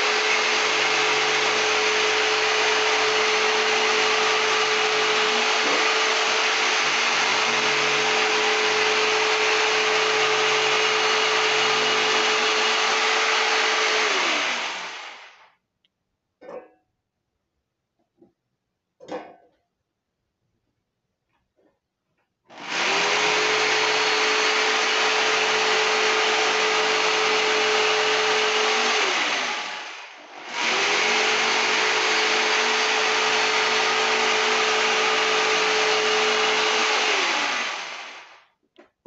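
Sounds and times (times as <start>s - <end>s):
electric jigsaw cutting: 0.0s - 15.5s, 22.5s - 38.4s.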